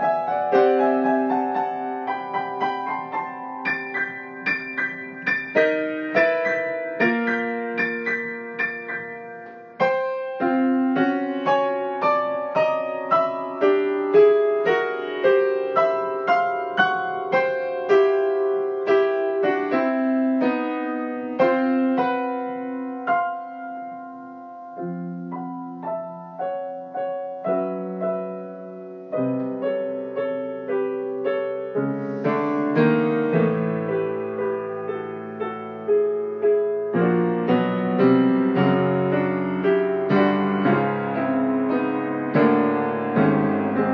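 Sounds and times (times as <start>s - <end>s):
solo piano chords: 0.0s - 43.9s.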